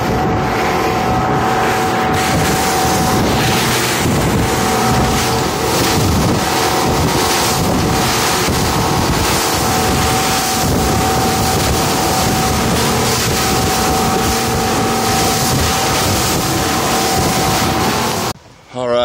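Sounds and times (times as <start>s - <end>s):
water rushing and splashing: 0.0s - 18.4s
boat engine hum: 0.0s - 18.6s
wind noise on microphone: 0.0s - 18.6s.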